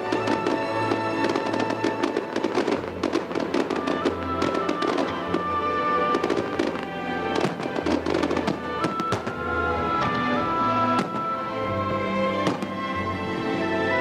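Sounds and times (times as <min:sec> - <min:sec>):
fireworks bursting and crackling: 0:00.0 - 0:13.1
music: 0:00.0 - 0:14.0.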